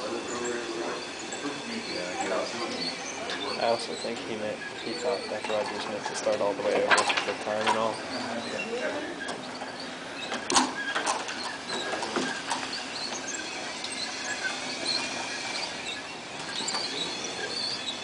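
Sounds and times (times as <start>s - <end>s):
robot motors whining and squeaking: 0.0s - 18.0s.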